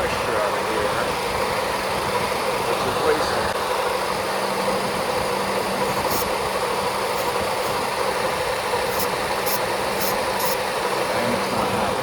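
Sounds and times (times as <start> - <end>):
air conditioning running: 0.0 - 12.0
car engine idling: 0.0 - 12.0.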